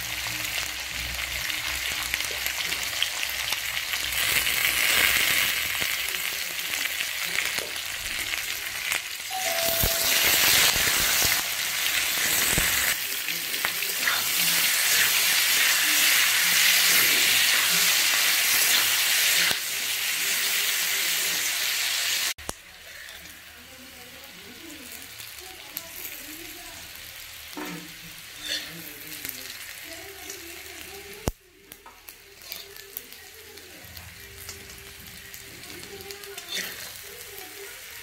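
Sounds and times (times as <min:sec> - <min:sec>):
potatoes sizzling in oil: 0:00.0 - 0:38.0.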